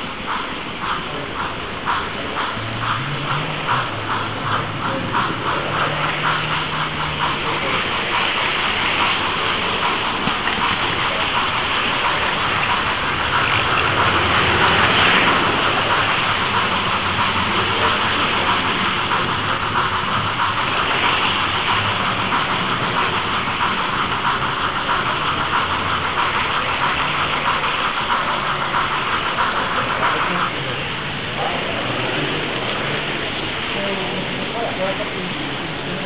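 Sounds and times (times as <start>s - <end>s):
model train wheels and motor whirring: 0.0s - 36.0s
wheels clicking over rails: 0.0s - 36.0s.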